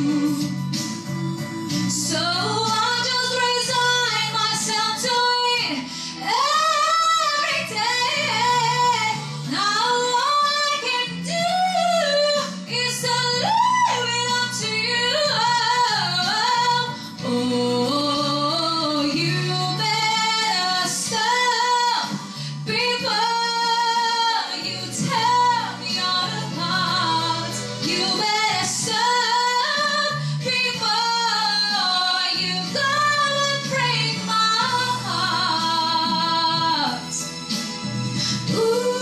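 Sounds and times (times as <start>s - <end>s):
young woman singing: 0.0s - 0.7s, 1.6s - 37.2s, 38.4s - 39.0s
instrumental accompaniment: 0.0s - 39.0s.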